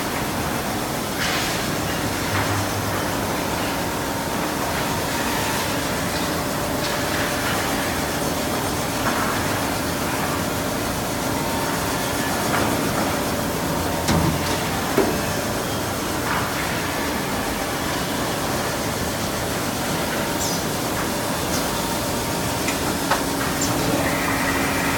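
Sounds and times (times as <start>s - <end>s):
lathe machining noise: 1.8s - 24.9s.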